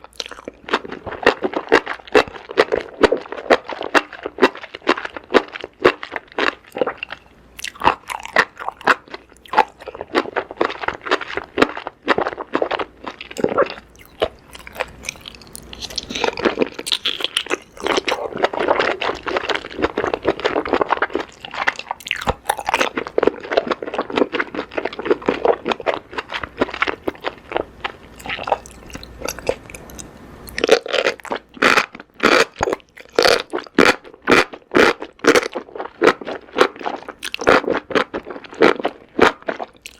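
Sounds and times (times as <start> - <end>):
crunchy chewing of food: 0.0 - 39.9.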